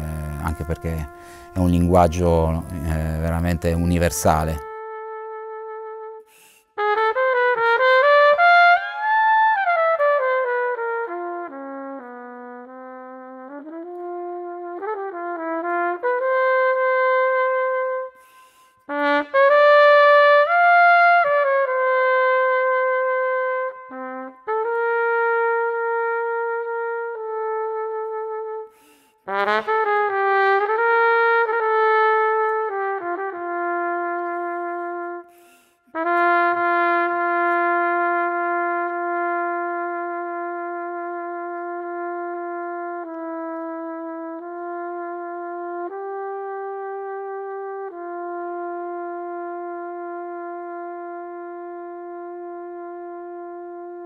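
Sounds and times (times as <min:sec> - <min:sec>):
solo trumpet melody: 0:00.0 - 0:54.0.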